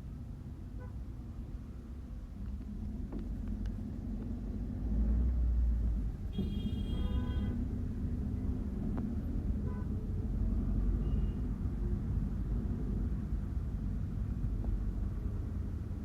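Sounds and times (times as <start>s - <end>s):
bus rumbling from inside: 0.0s - 16.0s.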